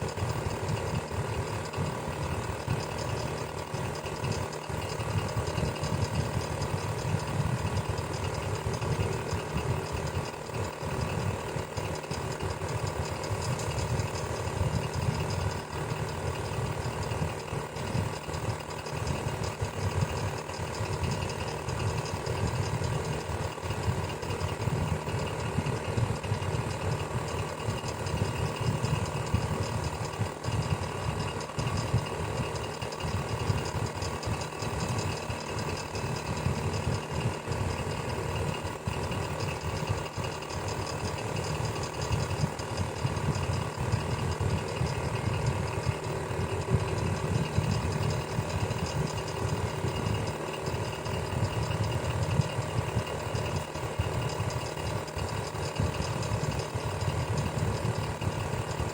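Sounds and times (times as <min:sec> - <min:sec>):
electric fan whirring: 0:00.0 - 0:58.9.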